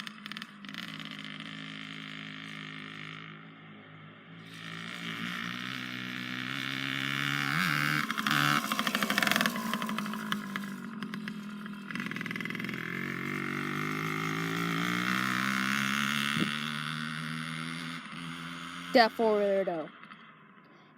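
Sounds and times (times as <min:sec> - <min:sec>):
small engine revving: 0:00.0 - 0:20.9.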